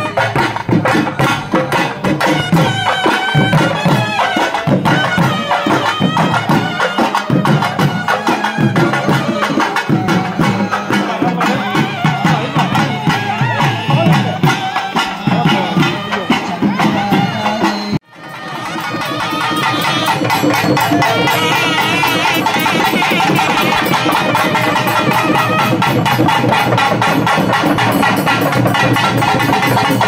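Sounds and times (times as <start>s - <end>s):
barrel drums beating: 0.0s - 30.0s
double-reed shawm melody: 0.0s - 30.0s.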